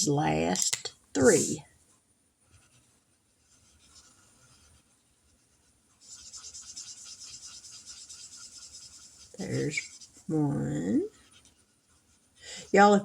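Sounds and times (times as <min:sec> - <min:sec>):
pen scratching on paper: 0:02.4 - 0:13.0.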